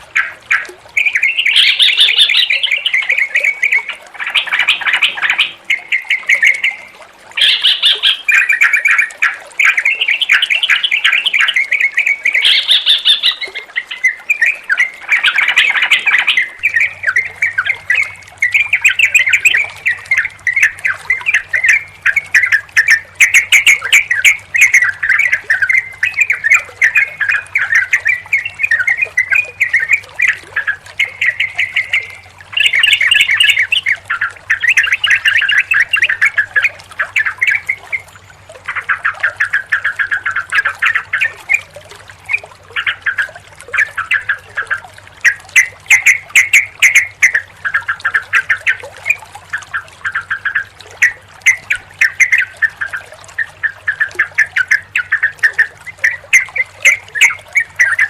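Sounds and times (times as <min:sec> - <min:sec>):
bulbuls chattering and calling: 0:00.0 - 0:58.0.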